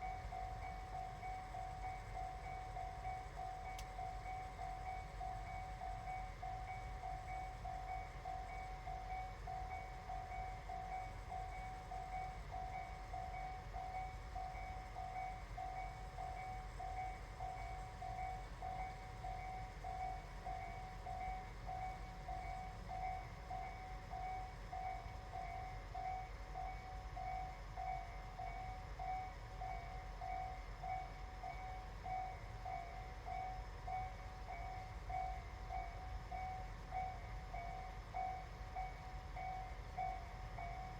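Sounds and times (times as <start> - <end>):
level crossing warning bell: 0.0 - 40.9
low steady rumble: 0.0 - 40.9.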